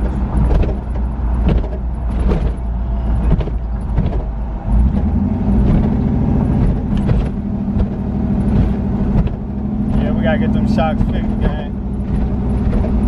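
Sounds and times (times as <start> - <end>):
car engine running: 0.0 - 13.0
car knocks and rattles on bumps: 0.0 - 13.0.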